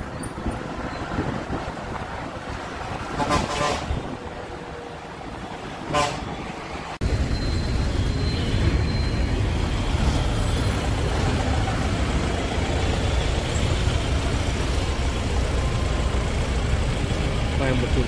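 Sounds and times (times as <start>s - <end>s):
bus engine rumbling: 0.0s - 18.0s
road traffic: 0.0s - 18.0s.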